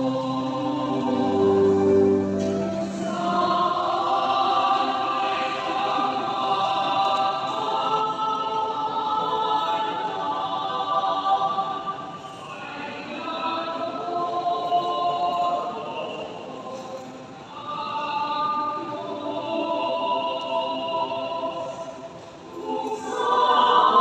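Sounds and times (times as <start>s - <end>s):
church choir singing a hymn: 0.0s - 24.0s.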